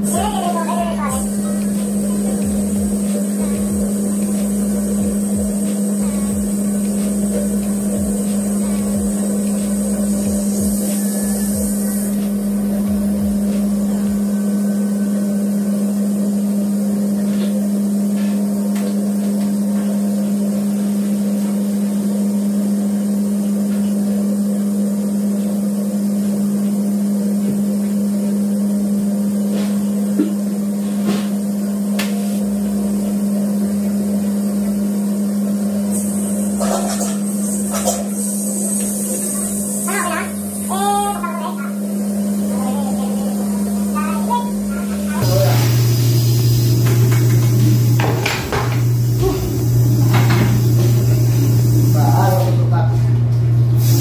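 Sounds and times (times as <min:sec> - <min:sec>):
machine drone: 0:00.0 - 0:54.0.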